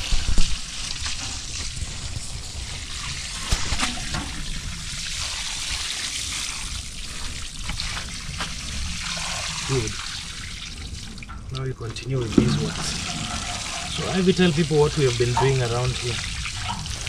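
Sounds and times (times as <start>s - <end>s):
water trickling and pouring: 0.0s - 17.0s.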